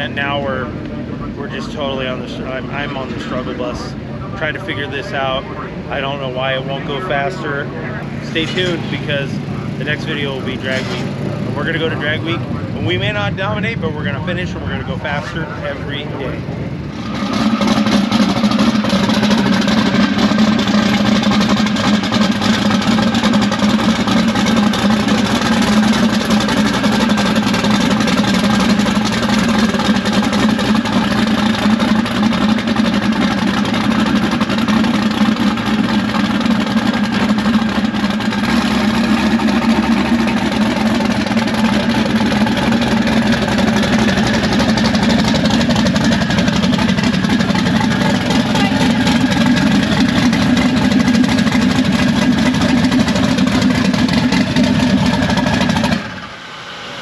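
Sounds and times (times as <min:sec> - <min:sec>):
car engine idling loudly: 0:00.0 - 0:57.0.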